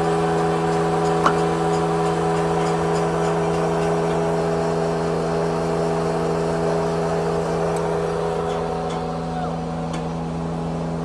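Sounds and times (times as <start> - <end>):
steady motor hum: 0.0 - 11.0.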